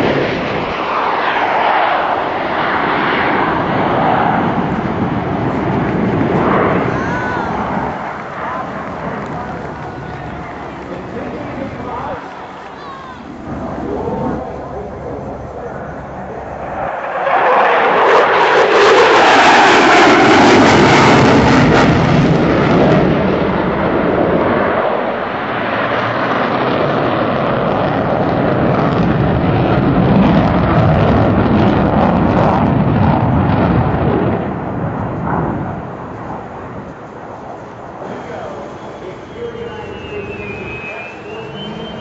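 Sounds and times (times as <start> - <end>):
jet fighter passing: 0.0 - 42.0.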